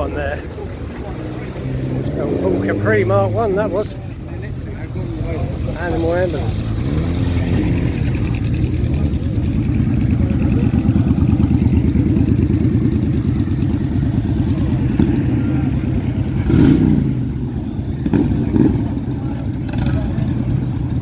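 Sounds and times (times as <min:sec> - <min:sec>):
motorcycle engines rumbling: 0:00.0 - 0:21.0
motorcycle engine revving: 0:00.6 - 0:21.0.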